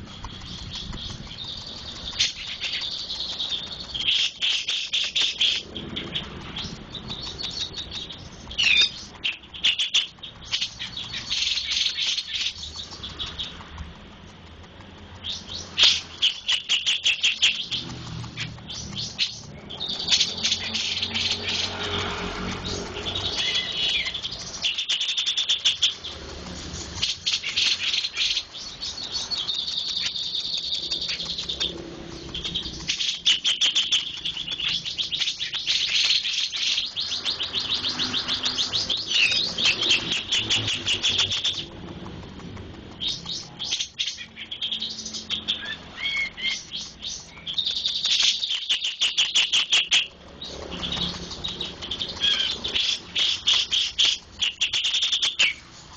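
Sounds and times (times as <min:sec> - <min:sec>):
songbird singing rapid chirps and trills: 0:00.0 - 0:55.9.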